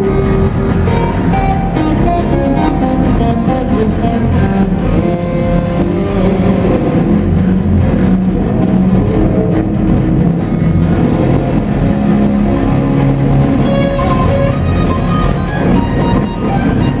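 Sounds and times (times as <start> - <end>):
bass guitar: 0.0 - 17.0
drum and cymbal hits: 0.0 - 17.0
electric guitar: 0.0 - 17.0.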